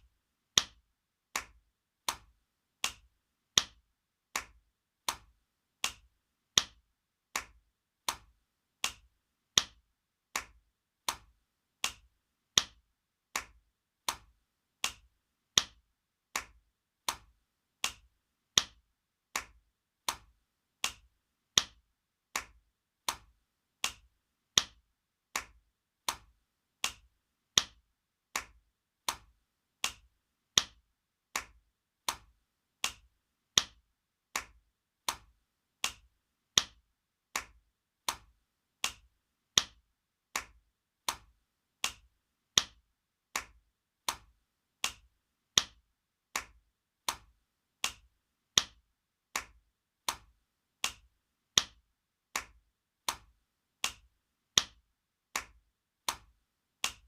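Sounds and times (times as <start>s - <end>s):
hand slapping skin: 0.6s - 57.0s.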